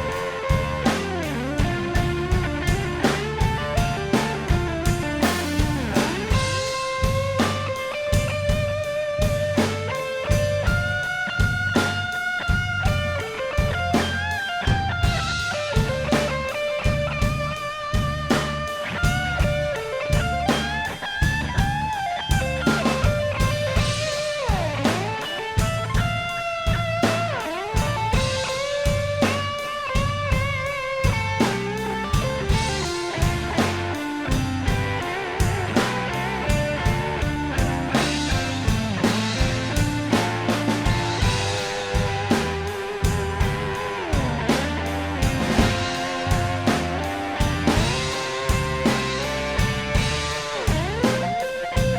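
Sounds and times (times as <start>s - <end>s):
electric guitar: 0.0s - 51.9s
steady drum beat: 0.0s - 51.9s.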